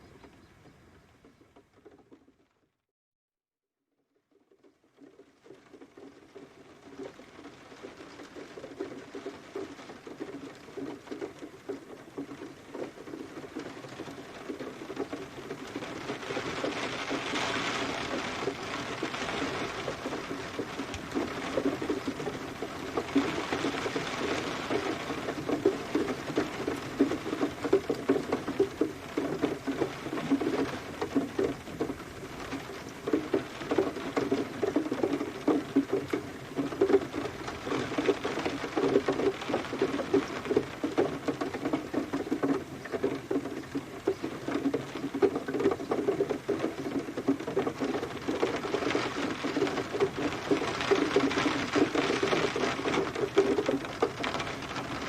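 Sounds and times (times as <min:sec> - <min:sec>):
rain pattering on a surface: 0:00.0 - 0:02.8, 0:04.1 - 0:55.0.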